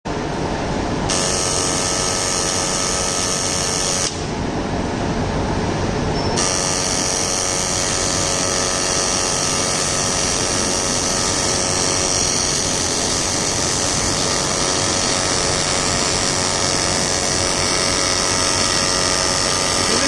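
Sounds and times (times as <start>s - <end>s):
welding arc buzzing and hissing: 1.1s - 4.3s, 6.4s - 20.0s.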